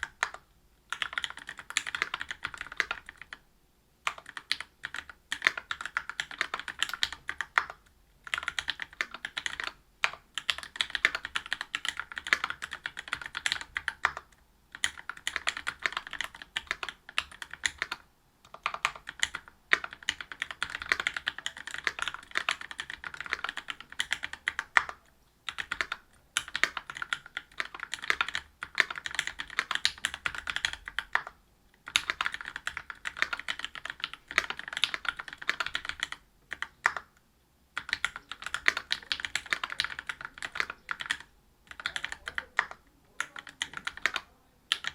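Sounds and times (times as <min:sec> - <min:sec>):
mechanical keyboard typing: 0:00.0 - 0:03.4, 0:04.0 - 0:37.2, 0:37.8 - 0:44.9.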